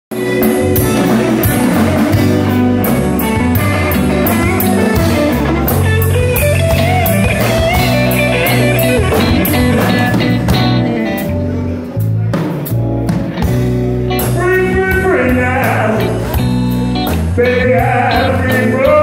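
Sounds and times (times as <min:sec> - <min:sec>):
drum kit beat: 0:00.1 - 0:19.0
electric guitars: 0:00.1 - 0:19.0
lead guitar bending notes: 0:00.1 - 0:19.0.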